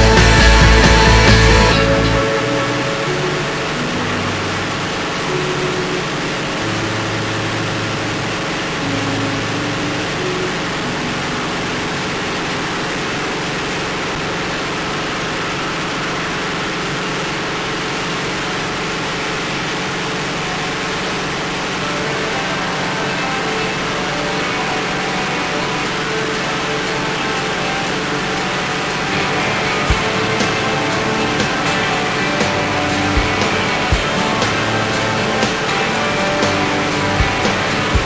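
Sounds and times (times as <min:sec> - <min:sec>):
aircraft engines and propellers droning: 0:00.0 - 0:38.0.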